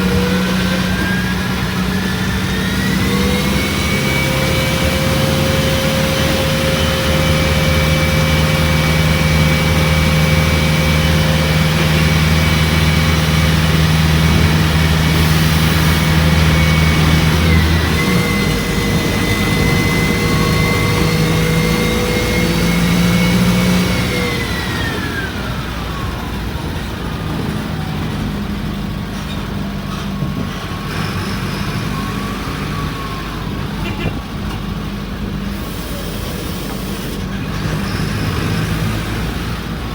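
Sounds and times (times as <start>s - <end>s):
bus engine humming: 0.0s - 39.9s.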